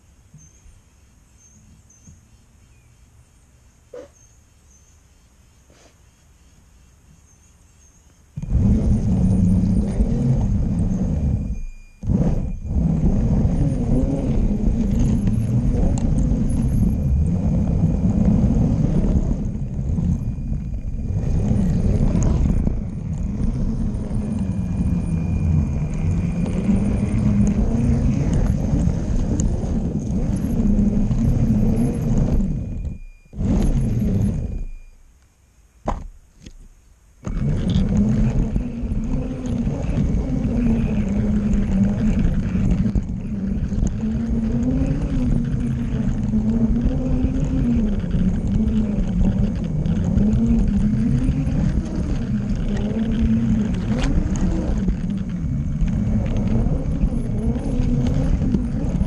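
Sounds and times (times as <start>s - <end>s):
toy train motor rumble and whine: 8.4s - 35.0s, 37.2s - 59.0s.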